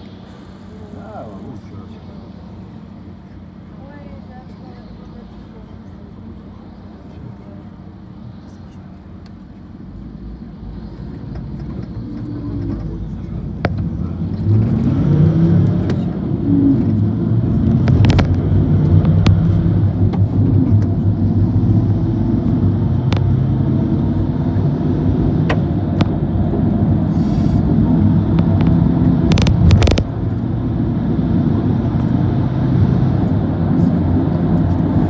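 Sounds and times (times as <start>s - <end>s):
vehicle engine and road drone: 0.0s - 35.0s.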